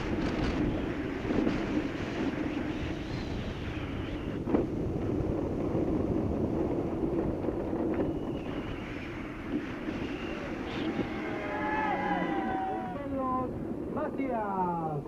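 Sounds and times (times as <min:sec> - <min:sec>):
wheels rolling on rough asphalt: 0:00.0 - 0:14.2
wind rushing over microphone: 0:00.0 - 0:15.0.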